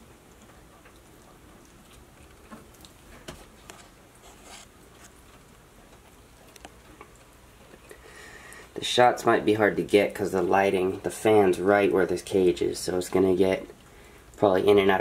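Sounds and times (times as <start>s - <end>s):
low fan hum: 0.0s - 15.0s.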